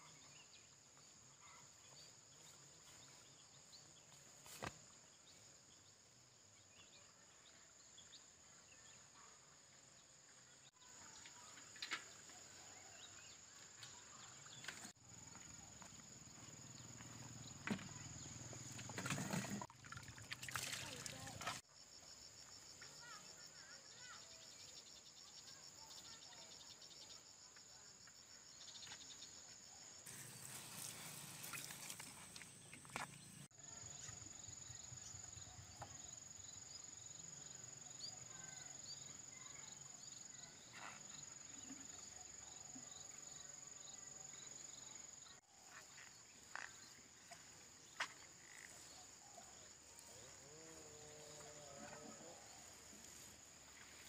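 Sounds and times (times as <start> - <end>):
insects chirping: 9.8 - 54.0.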